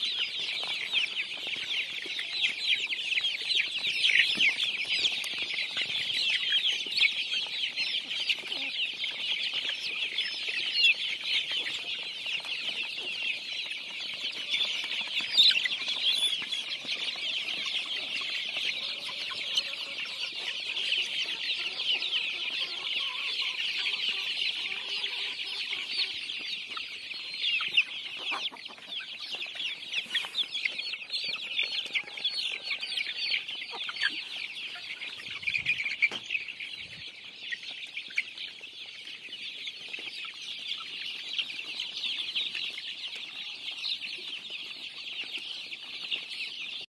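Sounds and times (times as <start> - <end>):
chickens calling: 0.0 - 46.9.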